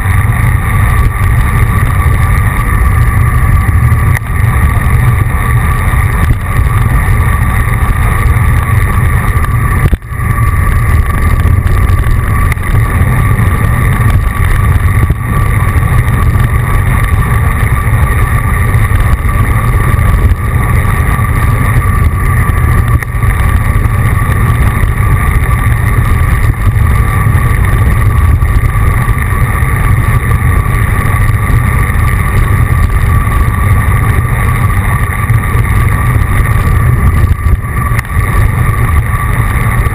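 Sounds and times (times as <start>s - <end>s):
road noise: 0.0s - 39.9s
wind rush on microphone: 0.0s - 39.9s.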